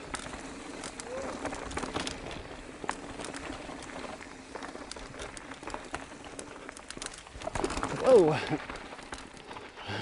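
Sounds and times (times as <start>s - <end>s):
bike clicks and rattles: 0.0s - 10.0s.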